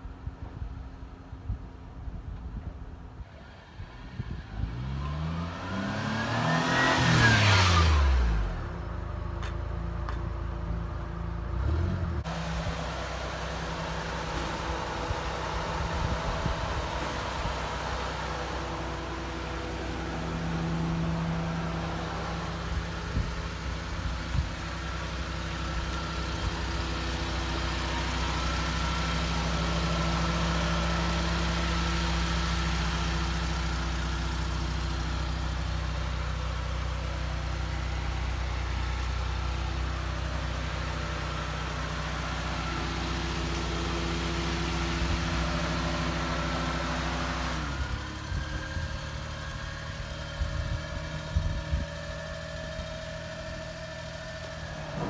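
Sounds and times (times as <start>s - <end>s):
car engine idling: 7.6s - 55.0s.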